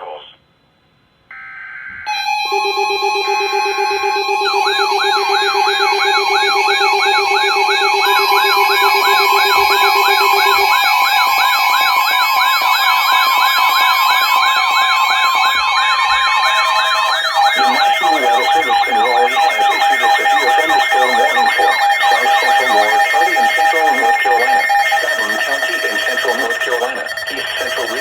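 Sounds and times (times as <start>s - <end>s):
electronic siren wails: 1.3s - 28.0s
steady beeping tones: 2.1s - 28.0s.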